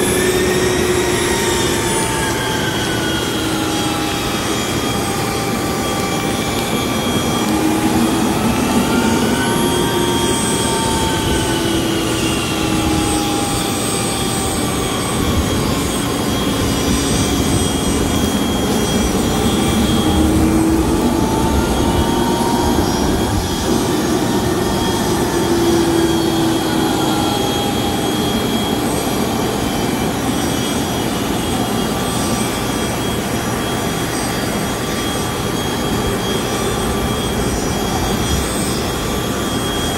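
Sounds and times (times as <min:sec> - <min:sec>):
jet engines running with whine: 0:00.0 - 0:39.9.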